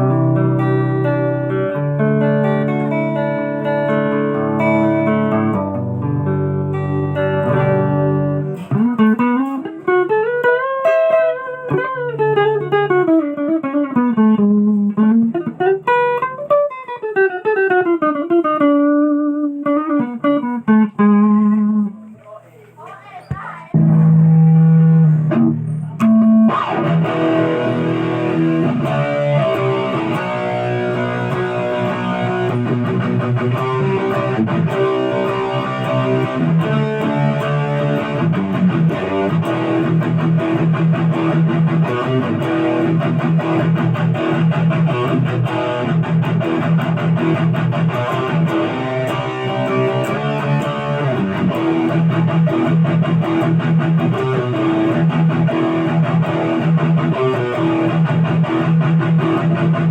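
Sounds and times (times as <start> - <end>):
electric guitar through amplifier: 0.0 - 59.9.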